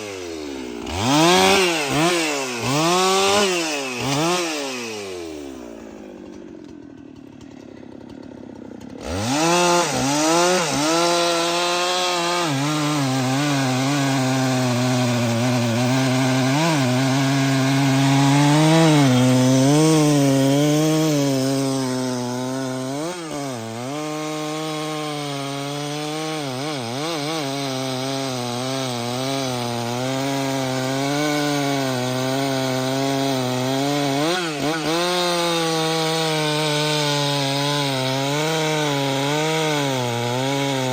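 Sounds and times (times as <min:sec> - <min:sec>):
chainsaw cutting a tree: 0:00.0 - 0:40.9.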